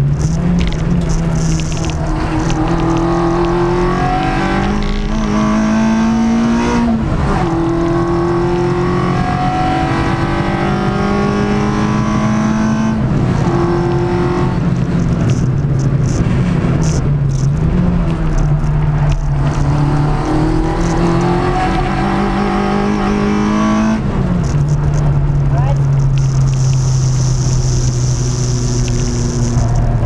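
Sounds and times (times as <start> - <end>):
car engine accelerating with upshifts: 0.0 - 30.0.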